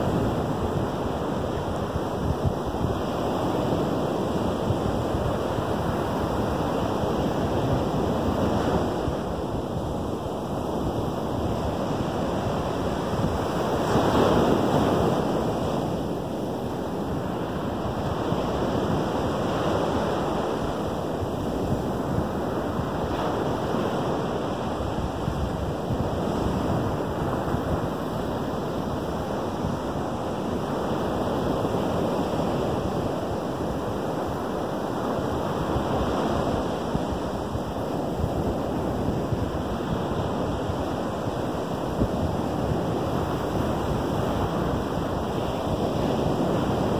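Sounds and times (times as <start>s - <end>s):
waves breaking on sandy shore: 0.0s - 46.9s.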